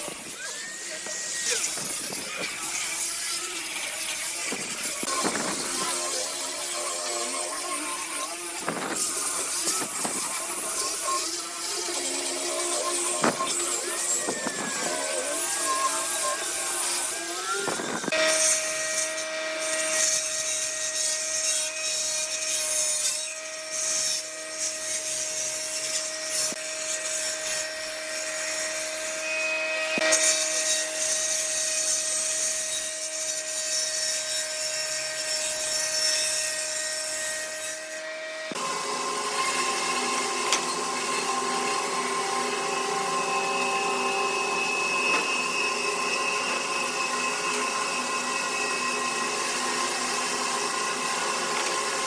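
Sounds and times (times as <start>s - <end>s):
higher-pitched power tool: 0.0s - 52.0s
power tool cutting wood: 0.0s - 52.0s.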